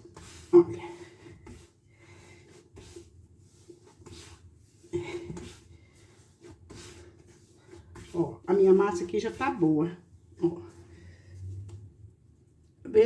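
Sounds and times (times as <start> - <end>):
hands kneading dough: 0.0 - 13.0.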